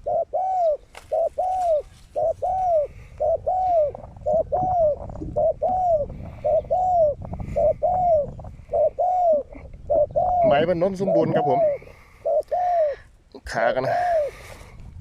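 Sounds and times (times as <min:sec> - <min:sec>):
dove cooing: 0:00.0 - 0:13.1, 0:13.8 - 0:14.5.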